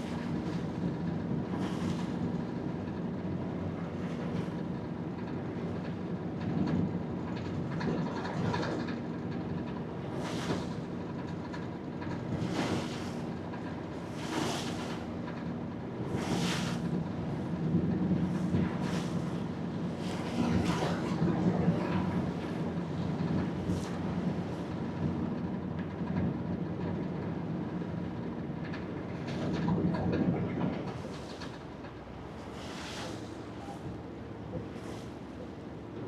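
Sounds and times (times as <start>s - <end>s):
boat diesel engine cruising: 0.0s - 7.7s, 9.3s - 36.0s.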